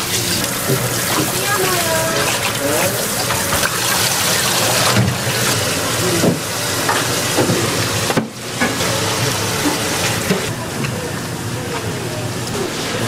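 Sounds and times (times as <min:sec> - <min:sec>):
water running from a tap: 0:00.0 - 0:10.6.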